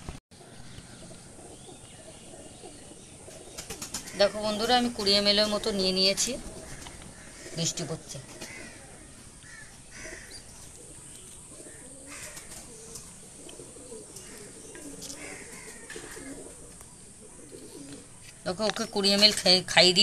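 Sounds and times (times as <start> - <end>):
pigeons cooing: 0.4 - 18.4.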